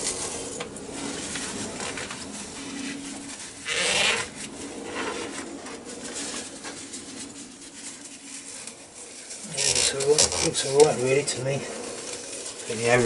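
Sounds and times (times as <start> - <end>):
tissue rubbing inside metal bowl: 0.0 - 13.0.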